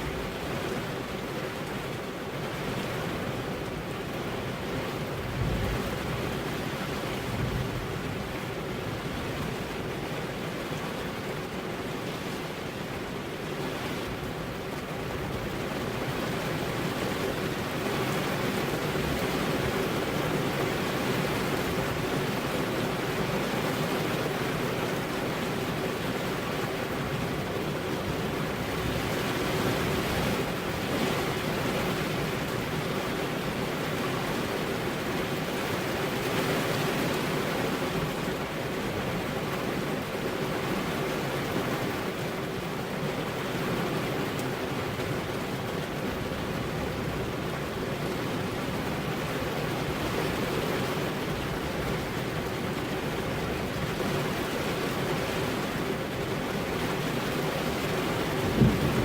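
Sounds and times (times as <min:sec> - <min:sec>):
rain on car window: 0:00.0 - 0:59.0.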